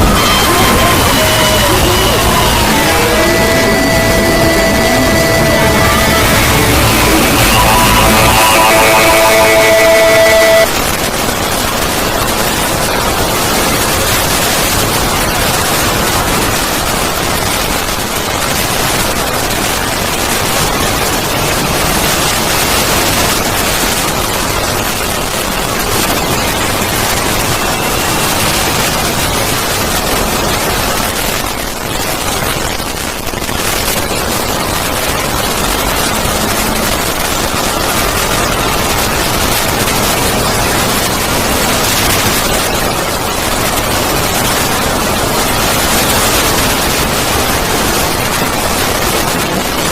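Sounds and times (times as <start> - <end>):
harsh distorted static: 0.0 - 49.9.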